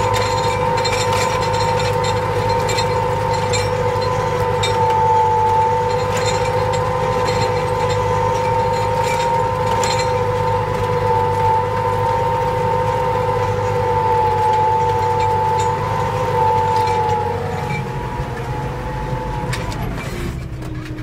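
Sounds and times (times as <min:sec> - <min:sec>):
high whine: 0:00.0 - 0:20.8
tractor diesel engine under load: 0:00.0 - 0:21.0.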